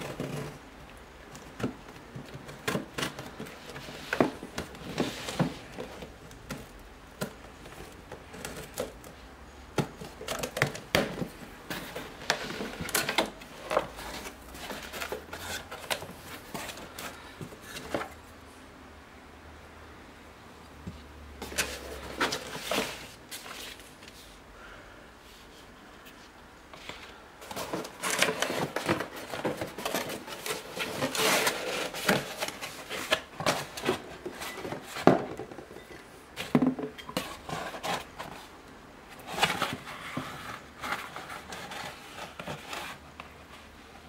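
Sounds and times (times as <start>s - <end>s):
cardboard rustling and scraping: 0.0s - 18.2s, 21.4s - 24.4s, 25.4s - 44.0s.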